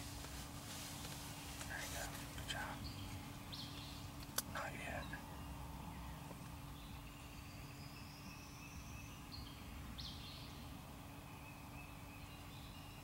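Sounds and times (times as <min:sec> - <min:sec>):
faint steady hum: 0:00.0 - 0:13.0
distant songbirds whistling: 0:01.7 - 0:13.0.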